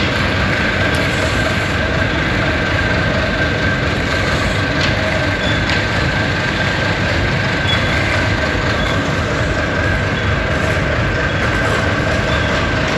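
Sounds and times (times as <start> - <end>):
concrete mixer rumbling: 0.0 - 12.9
high mechanical whine: 0.0 - 12.9.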